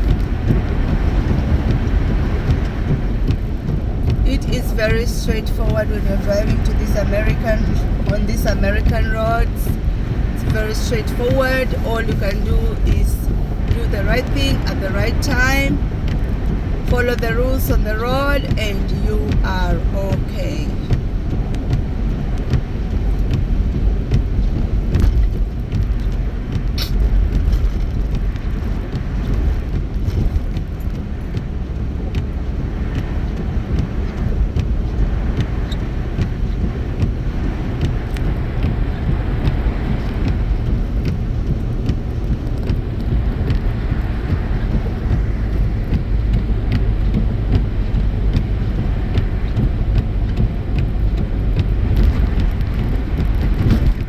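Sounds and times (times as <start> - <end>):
tyres and engine rumble: 0.0 - 54.0.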